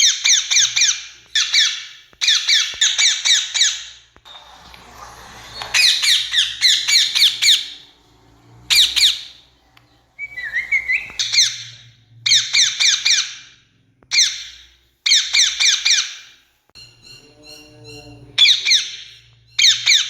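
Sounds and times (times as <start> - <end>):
parakeet screeching: 0.0 - 4.0, 4.9 - 8.0, 8.7 - 9.6, 10.2 - 20.0.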